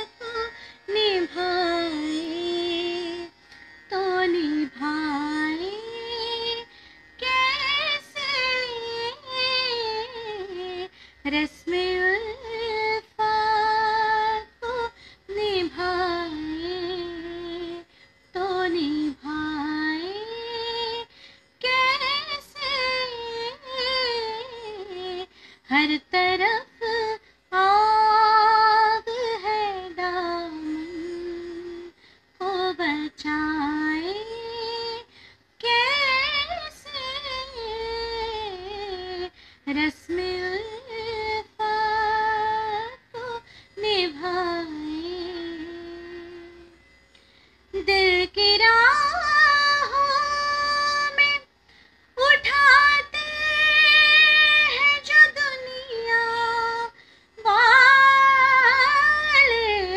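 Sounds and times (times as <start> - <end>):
woman singing unaccompanied: 0.0 - 46.9, 47.7 - 59.9.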